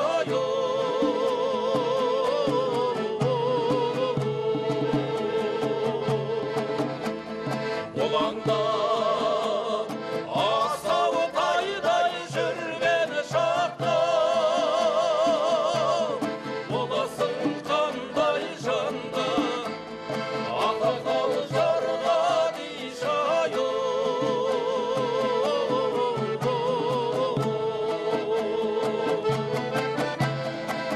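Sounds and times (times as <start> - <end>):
folk instrumental accompaniment: 0.0 - 30.9
person singing with wide vibrato: 0.0 - 30.9.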